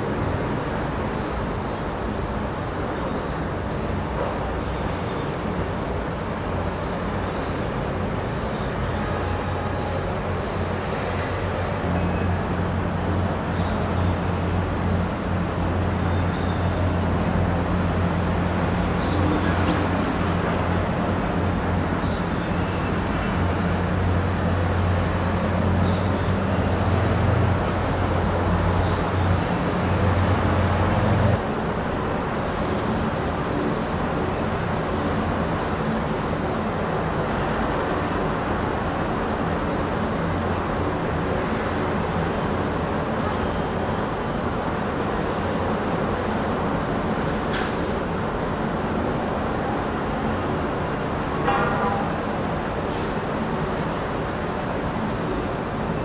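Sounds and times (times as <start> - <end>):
distant traffic rumble: 0.0 - 56.0.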